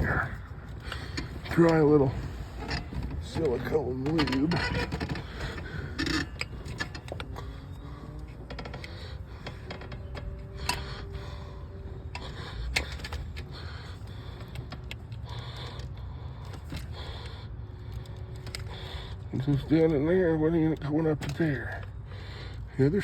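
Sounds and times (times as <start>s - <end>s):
light clicks and knocks: 0.0s - 22.6s.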